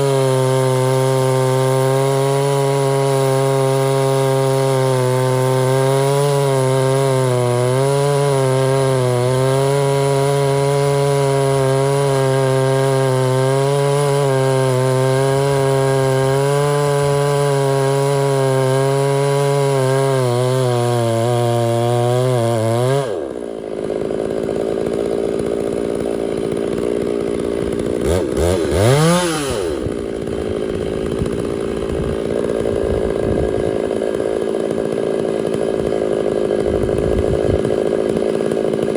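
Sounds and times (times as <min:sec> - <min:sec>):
chainsaw cutting wood: 0:00.0 - 0:38.9
chainsaw idling and revving: 0:00.0 - 0:38.9.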